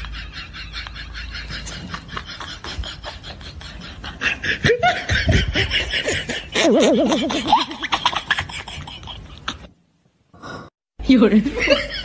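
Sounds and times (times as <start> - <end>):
laughter in quick pulses: 0.0 - 9.8.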